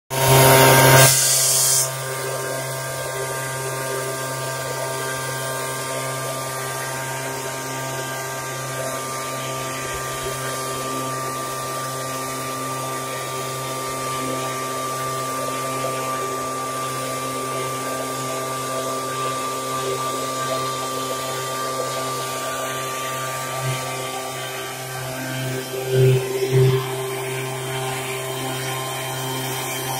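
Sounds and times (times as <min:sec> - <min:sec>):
backpack power sprayer running: 0:00.1 - 0:29.9.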